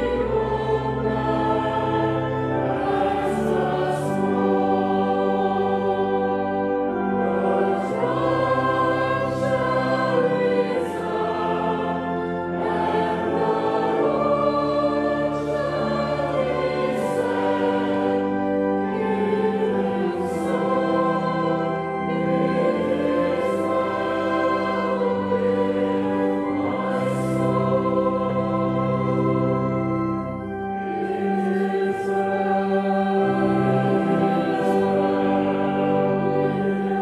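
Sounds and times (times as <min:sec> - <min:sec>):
group singing a slow hymn: 0:00.0 - 0:37.0.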